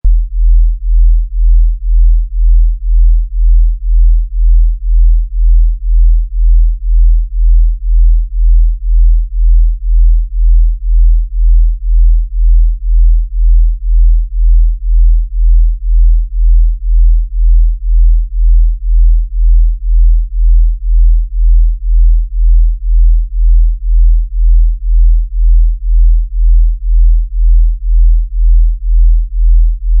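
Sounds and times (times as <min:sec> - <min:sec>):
deep beating hum: 0:00.0 - 0:30.0.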